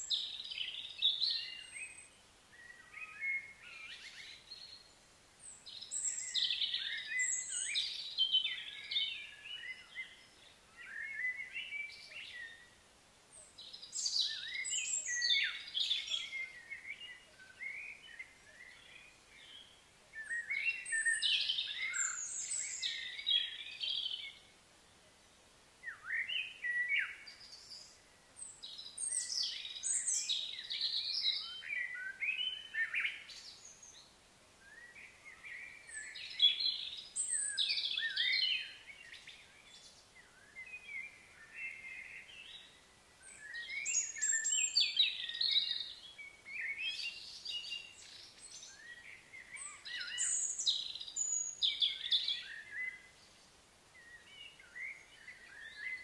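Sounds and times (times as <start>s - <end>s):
songbirds chirping and whistling: 0.0s - 24.6s, 25.8s - 56.0s
faint outdoor hiss: 0.0s - 56.0s.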